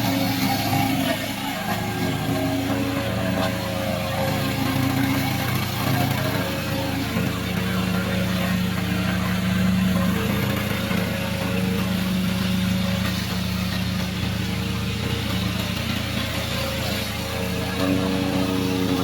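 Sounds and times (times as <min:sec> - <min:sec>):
mower cutting deck noise: 0:00.0 - 0:19.0
mower engine running: 0:00.0 - 0:19.0.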